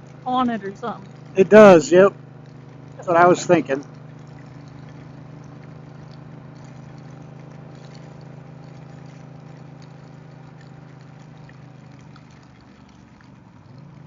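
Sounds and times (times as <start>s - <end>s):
faint ticks of rain: 0.0s - 14.0s
motorcycle engine droning: 0.0s - 14.0s.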